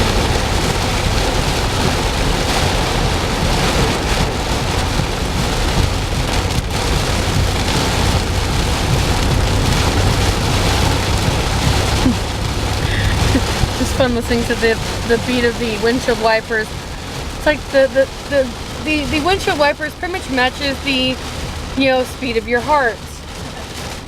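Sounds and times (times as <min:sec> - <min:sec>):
heavy rain on a car: 0:00.0 - 0:24.0.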